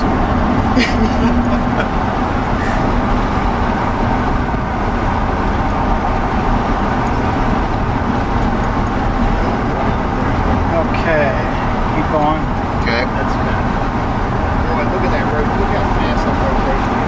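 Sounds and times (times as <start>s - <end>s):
car engine inside cabin: 0.0s - 17.0s
tyre road noise: 0.0s - 17.0s.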